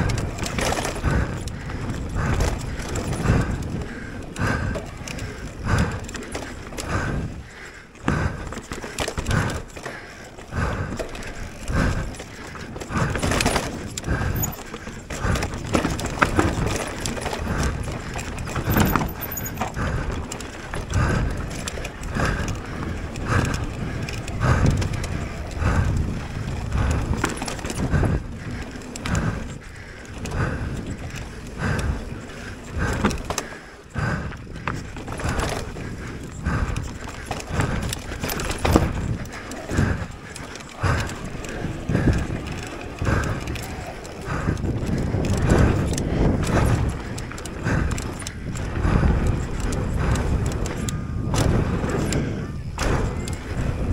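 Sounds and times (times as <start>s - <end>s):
bike frame rattling and knocking: 0.0s - 53.9s
bike tyres on loose dirt: 0.0s - 53.9s.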